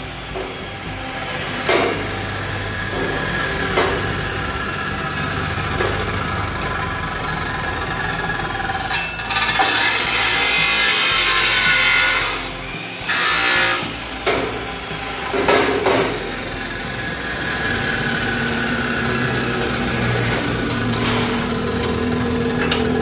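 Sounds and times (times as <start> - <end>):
chop saw grinding metal: 0.0 - 23.0.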